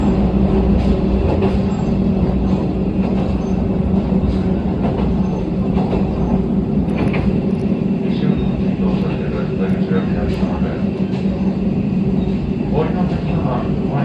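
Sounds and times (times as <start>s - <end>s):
wheels clicking on rail joints: 0.0s - 13.3s.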